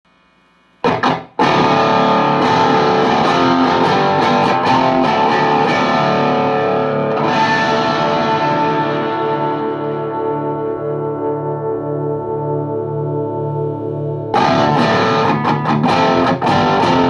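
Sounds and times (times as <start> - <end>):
faint amp hum: 0.1 - 17.0
distorted guitar chord ringing: 0.8 - 17.0
distorted guitar chugs: 0.8 - 17.0.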